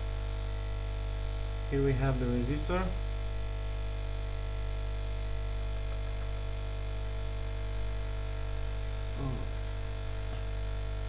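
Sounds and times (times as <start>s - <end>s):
electrical hum and buzz: 0.0s - 11.0s.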